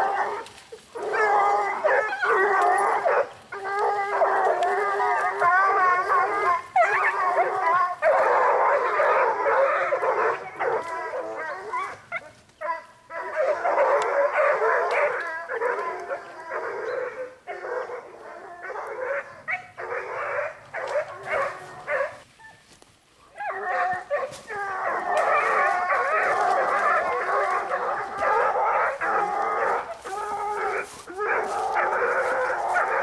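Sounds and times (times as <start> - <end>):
hounds baying and howling: 0.0 - 33.0.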